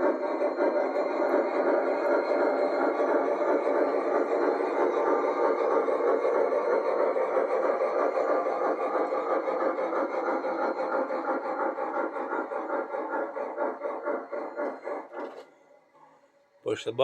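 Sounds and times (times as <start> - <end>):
model train steam chuffing: 0.0 - 17.0.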